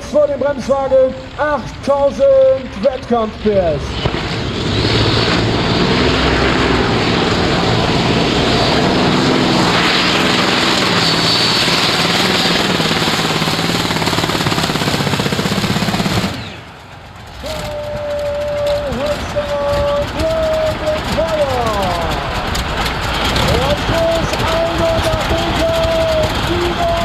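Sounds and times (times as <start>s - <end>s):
tractor engine droning at full power: 0.0s - 27.0s.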